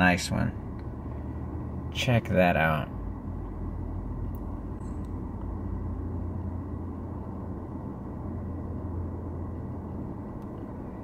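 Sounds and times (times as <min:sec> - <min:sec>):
low rumble inside car cabin: 0:00.0 - 0:11.0.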